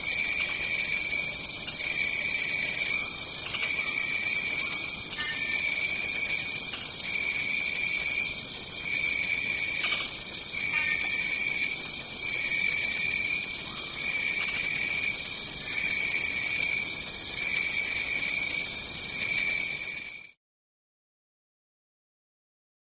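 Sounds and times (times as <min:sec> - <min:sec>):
high insect trill: 0:00.0 - 0:20.4
pulsing low insect trill: 0:00.0 - 0:20.4.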